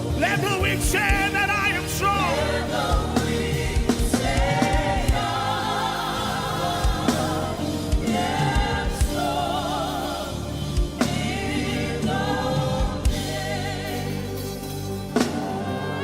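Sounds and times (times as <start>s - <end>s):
gospel choir singing with band: 0.0s - 16.0s.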